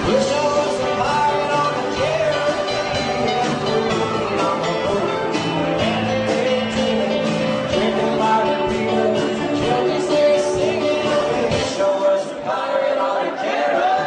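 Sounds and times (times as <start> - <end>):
plucked guitar: 0.0 - 12.3
band playing country-rock song: 0.0 - 12.5
sung vocals: 0.0 - 14.0.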